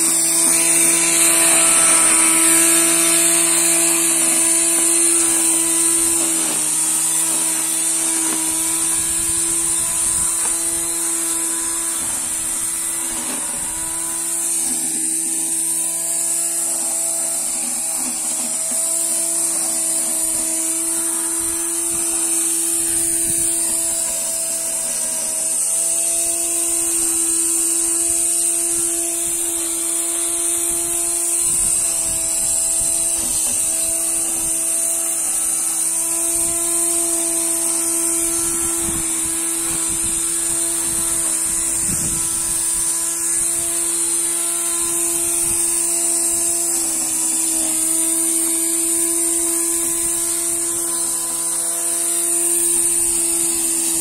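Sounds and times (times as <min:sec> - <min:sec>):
electric grass cutter whining: 0:00.0 - 0:54.0.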